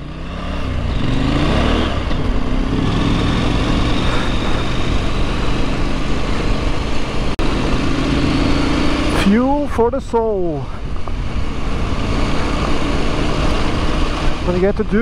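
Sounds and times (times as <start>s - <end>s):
motorcycle engine accelerating: 0.0s - 15.0s
wind noise: 0.6s - 15.0s.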